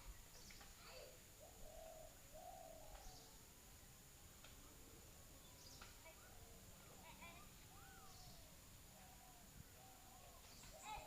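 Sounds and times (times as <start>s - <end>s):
bird calling faintly: 0.0s - 3.4s, 4.4s - 11.0s.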